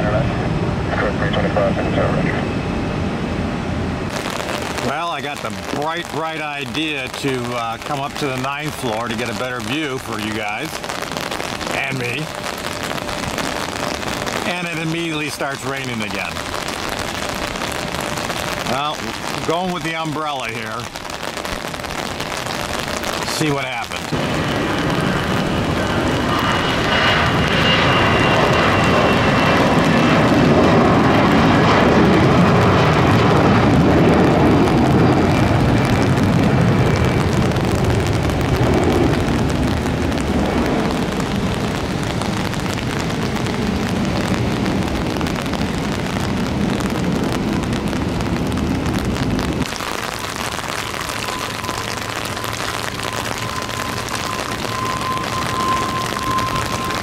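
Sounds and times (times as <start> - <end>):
jet engines whining: 0.0 - 57.0
low rumble: 0.0 - 57.0
heavy rain hissing: 4.1 - 57.0.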